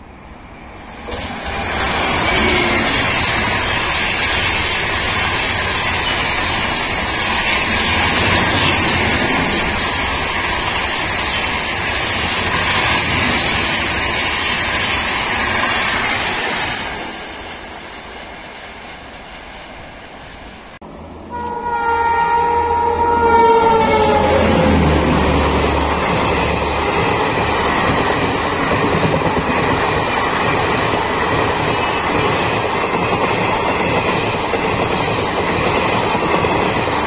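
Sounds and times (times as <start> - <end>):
approaching train rumble: 0.0 - 37.0
train wheels rushing on rail: 0.0 - 37.0.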